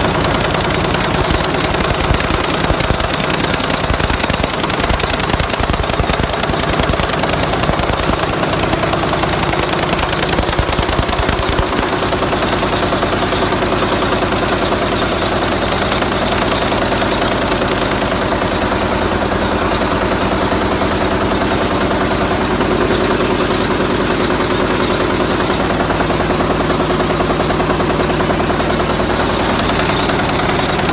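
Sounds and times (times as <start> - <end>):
machinery clattering: 0.0 - 30.9.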